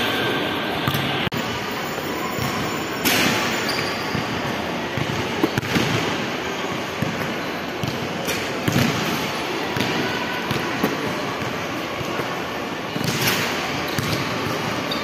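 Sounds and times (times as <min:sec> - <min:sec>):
background noise: 0:00.0 - 0:15.0.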